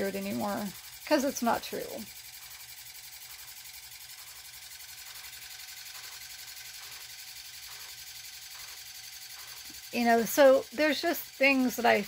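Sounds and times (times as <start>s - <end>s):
faint whir: 0.0s - 12.0s
pulsing machine hum: 0.0s - 12.0s.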